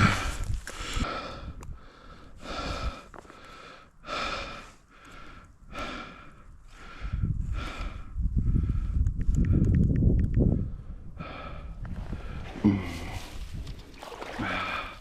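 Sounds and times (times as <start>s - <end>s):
person breathing heavily: 0.0s - 9.7s, 10.5s - 13.4s.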